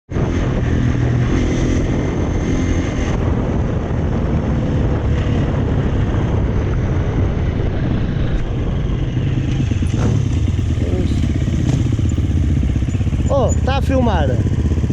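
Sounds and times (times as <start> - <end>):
motorcycle engine running: 0.1 - 14.9.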